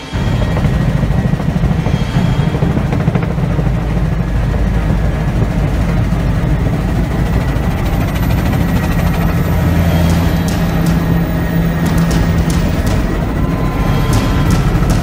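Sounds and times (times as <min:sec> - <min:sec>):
helicopter engine and rotor drone: 0:00.0 - 0:15.0
thin high whine: 0:00.0 - 0:15.0.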